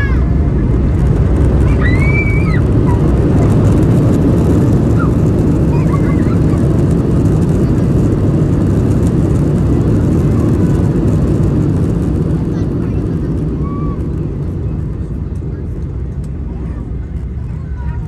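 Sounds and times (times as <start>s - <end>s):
jet engines in reverse thrust: 0.0s - 18.0s
runway noise: 0.0s - 18.0s.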